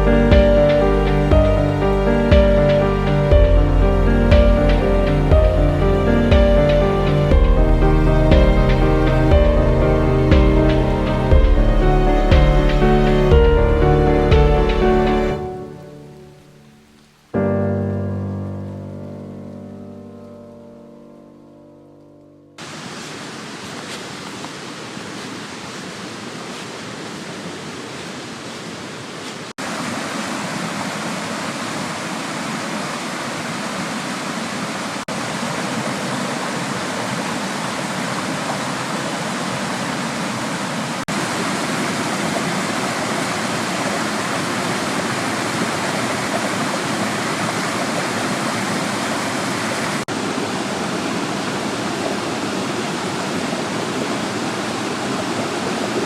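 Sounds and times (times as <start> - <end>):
waterfall rushing: 0.0 - 20.9, 22.6 - 56.0.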